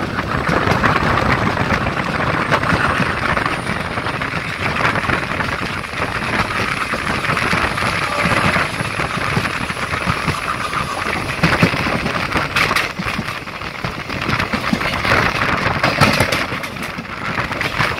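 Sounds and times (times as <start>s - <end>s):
wind rushing: 0.0s - 15.8s
train wheels rushing on rails: 0.0s - 17.9s
wheels clacking over rail joints: 0.0s - 17.9s.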